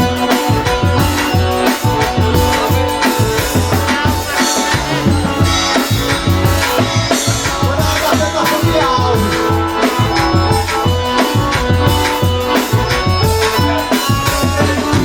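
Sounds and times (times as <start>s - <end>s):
accordion: 0.0s - 15.0s
bass: 0.0s - 15.0s
drums keeping a quick beat: 0.0s - 15.0s.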